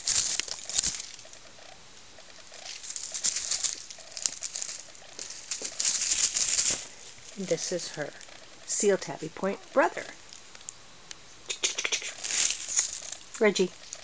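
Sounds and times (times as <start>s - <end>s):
kitten rustling and pattering: 0.0s - 9.4s, 11.7s - 14.0s.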